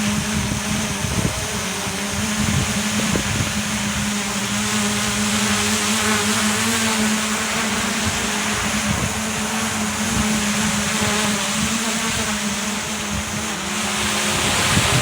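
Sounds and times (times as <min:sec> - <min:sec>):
drone propellers humming: 0:00.0 - 0:15.0
wind buffeting microphone: 0:00.0 - 0:15.0.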